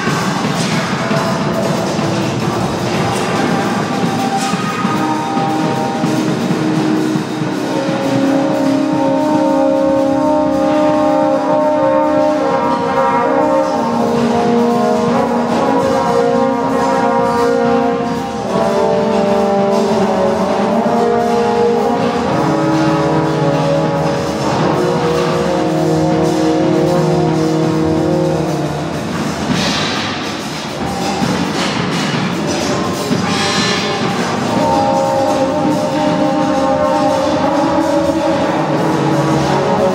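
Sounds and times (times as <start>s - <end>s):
drone noise music: 0.0s - 39.9s.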